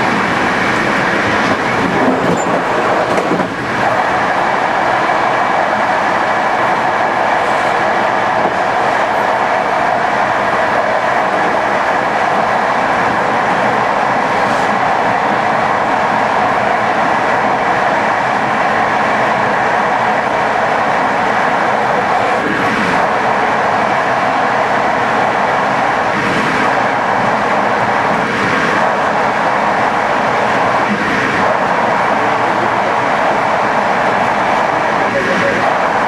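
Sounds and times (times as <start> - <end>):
train wheels rolling on rails: 0.0 - 36.0.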